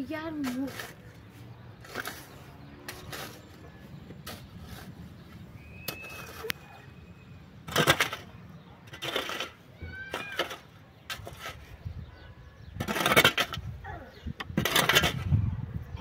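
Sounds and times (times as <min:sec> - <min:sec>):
shovel scraping stony earth: 0:00.0 - 0:15.4.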